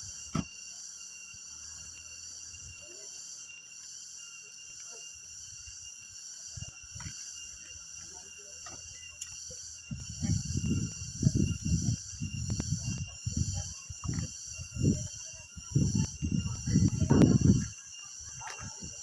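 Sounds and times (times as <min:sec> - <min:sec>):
insects shrilling: 0:00.0 - 0:19.0.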